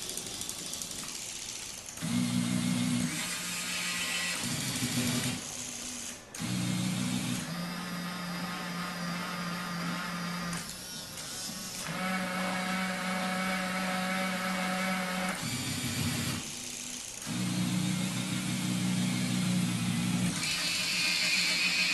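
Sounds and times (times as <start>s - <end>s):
small gear motors whirring: 0.0s - 21.9s.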